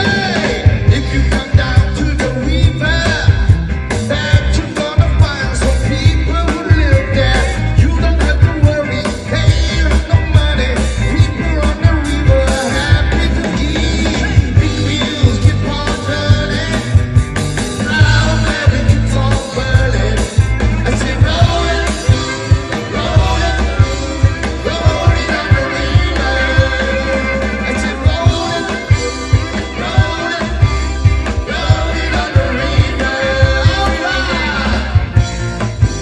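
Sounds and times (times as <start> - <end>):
person singing: 0.0 - 35.4
drum beat: 0.0 - 36.0
live rock band playing: 0.0 - 36.0.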